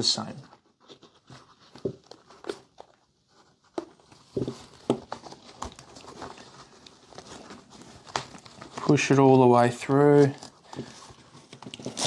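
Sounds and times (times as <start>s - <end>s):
webbing rustling: 0.0s - 12.0s.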